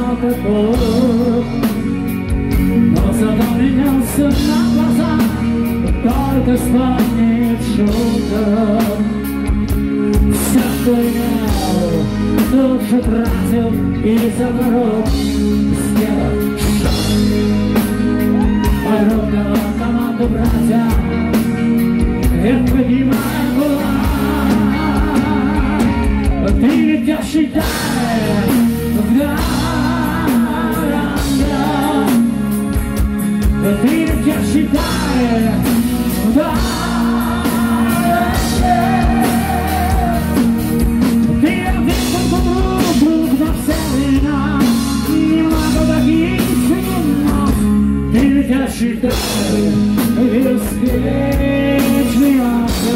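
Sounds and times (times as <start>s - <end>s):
bass guitar: 0.0s - 52.9s
drum kit: 0.0s - 52.9s
electric guitar: 0.0s - 52.9s
man singing: 0.0s - 52.9s.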